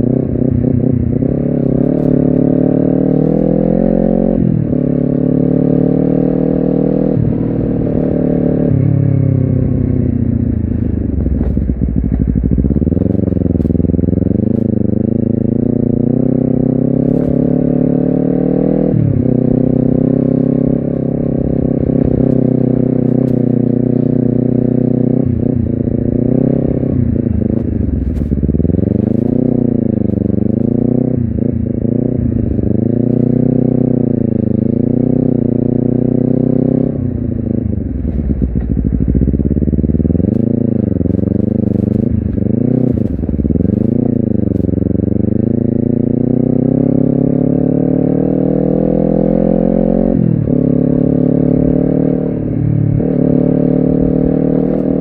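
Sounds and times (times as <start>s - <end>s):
motorcycle engine and exhaust: 0.0s - 55.0s.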